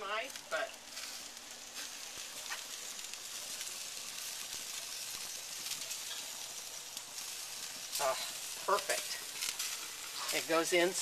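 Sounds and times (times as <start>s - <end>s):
fat sizzling on a grill: 0.0s - 11.0s.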